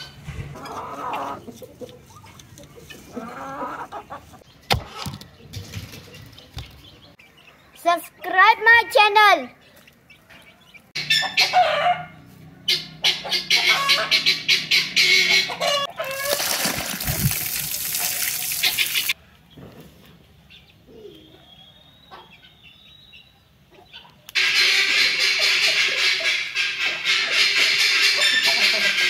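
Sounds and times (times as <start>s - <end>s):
chickens clucking: 0.0s - 7.6s, 9.6s - 19.7s, 22.1s - 22.8s, 23.6s - 29.0s.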